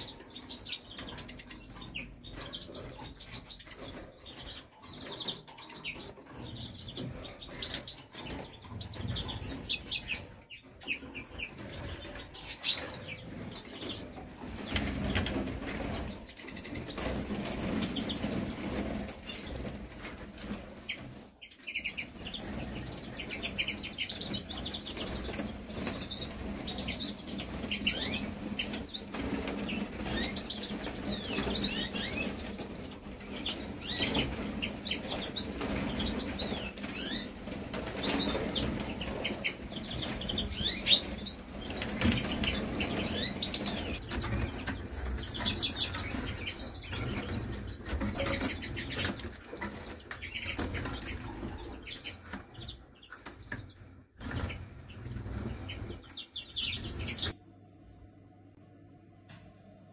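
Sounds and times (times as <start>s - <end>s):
canaries chirping: 0.0s - 57.4s
wings fluttering: 0.0s - 57.4s.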